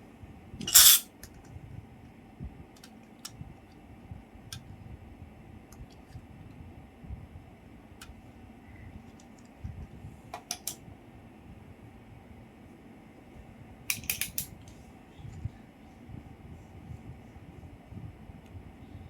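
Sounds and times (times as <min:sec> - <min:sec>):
low steady rumble: 0:00.0 - 0:13.9, 0:14.5 - 0:19.0.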